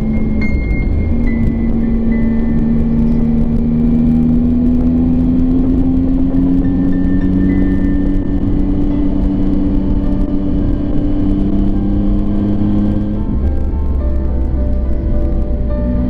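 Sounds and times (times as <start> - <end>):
motorcycle engine accelerating: 0.0 - 16.0
road and wind rumble: 0.0 - 16.0.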